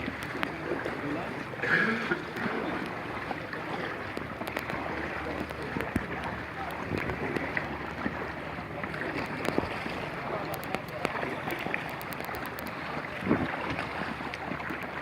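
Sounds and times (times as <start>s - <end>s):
water splashing around canoe: 0.0s - 15.0s.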